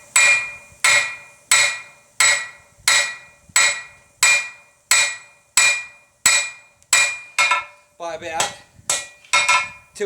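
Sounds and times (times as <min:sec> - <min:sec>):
hammer striking steel on anvil: 0:00.0 - 0:09.9.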